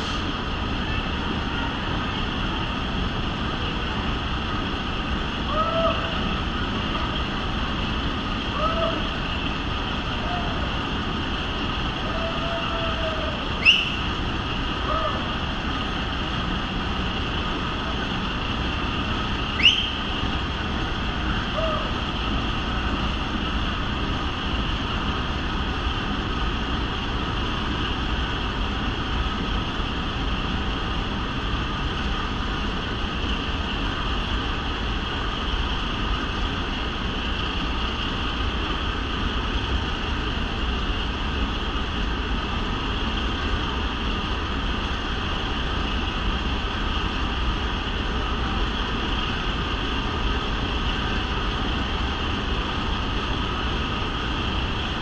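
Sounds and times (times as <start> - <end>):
train rumbling in tunnel: 0.0 - 55.0.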